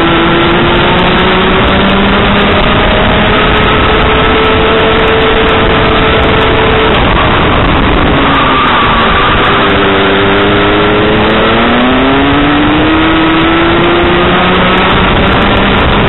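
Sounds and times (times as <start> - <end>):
kart engine at full throttle: 0.0 - 16.0
wind noise: 0.0 - 16.0.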